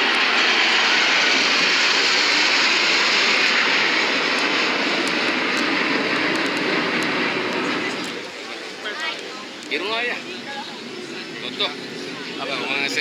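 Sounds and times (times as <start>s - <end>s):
jet passing overhead: 0.0s - 13.0s.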